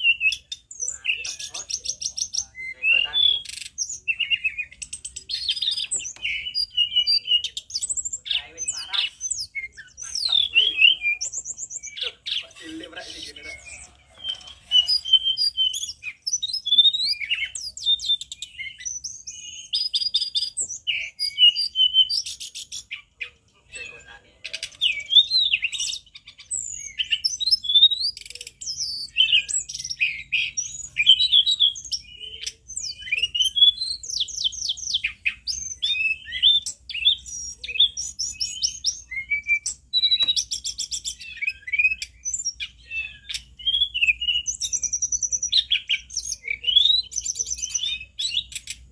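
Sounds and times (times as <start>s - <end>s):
flycatcher singing: 0.0s - 48.9s.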